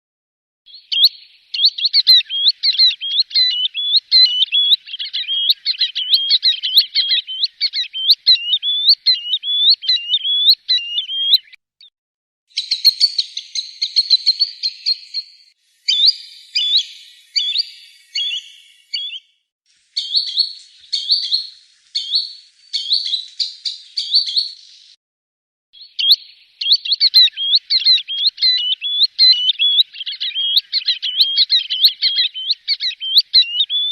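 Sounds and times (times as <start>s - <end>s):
sandpiper whistled calls: 0.7s - 11.6s, 12.5s - 19.3s, 20.0s - 24.8s, 25.8s - 33.9s.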